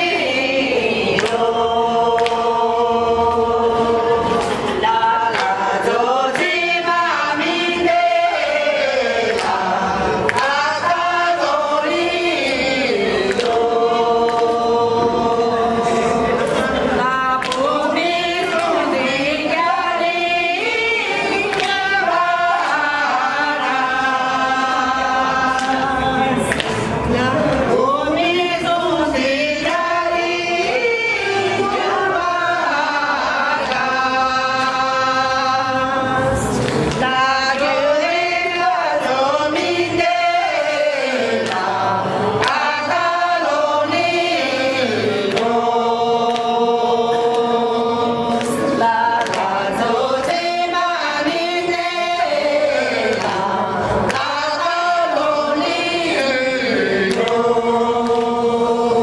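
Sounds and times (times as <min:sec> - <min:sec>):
men and women singing together: 0:00.0 - 0:59.0.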